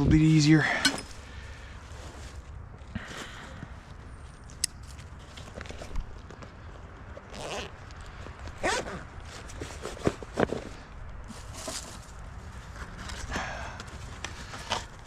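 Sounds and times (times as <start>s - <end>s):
rustling of gear: 0.8s - 15.0s.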